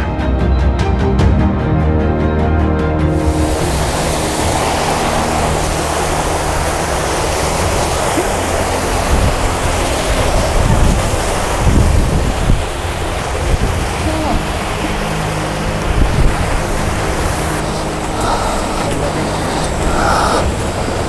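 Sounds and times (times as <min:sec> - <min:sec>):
stream rushing over rocks: 0:03.1 - 0:21.0
wind buffeting microphone: 0:03.1 - 0:21.0.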